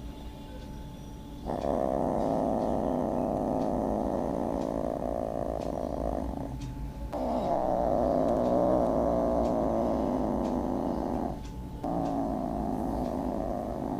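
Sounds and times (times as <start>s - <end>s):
cat low vocal sound: 1.4s - 13.9s.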